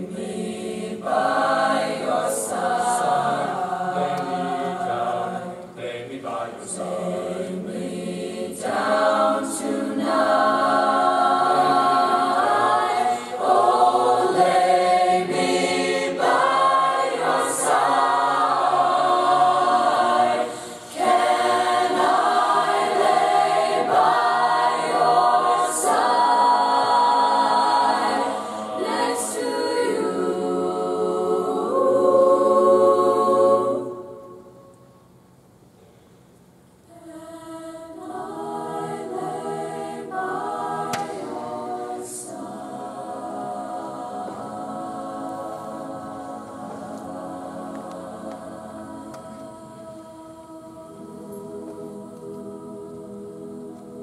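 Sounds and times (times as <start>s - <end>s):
choir singing a cappella: 0.0s - 34.9s, 36.9s - 54.0s.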